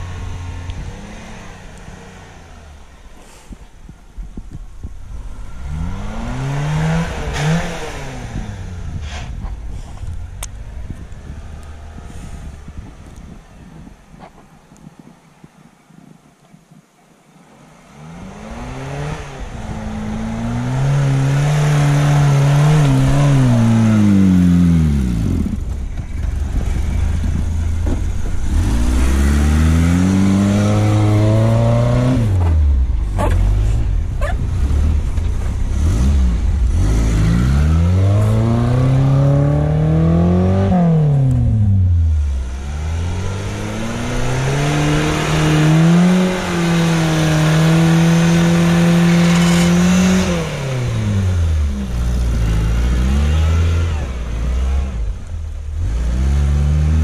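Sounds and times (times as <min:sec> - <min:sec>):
car engine revving: 0:00.0 - 0:03.2, 0:04.9 - 0:13.3, 0:17.9 - 0:57.0.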